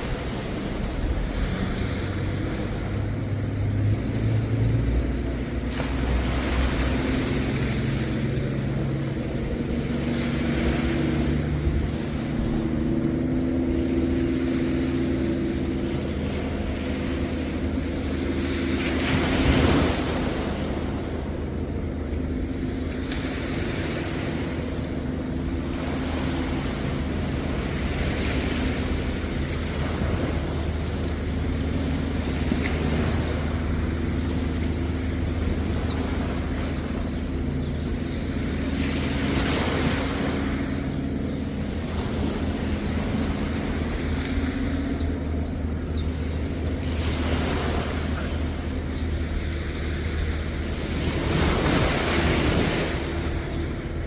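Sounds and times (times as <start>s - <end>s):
low engine hum: 0.0s - 54.0s
waves washing onto beach: 0.0s - 54.0s.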